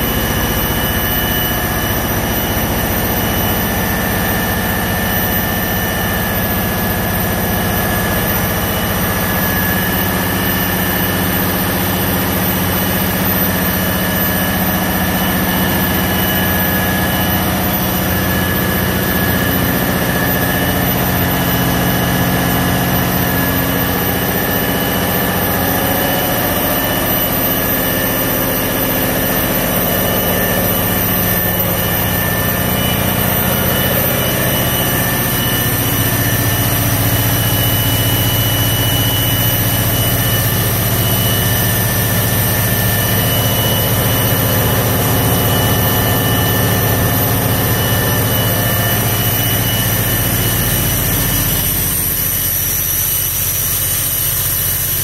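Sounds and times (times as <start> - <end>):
diesel generator engine running: 0.0 - 55.0
thin high whine: 0.0 - 55.0.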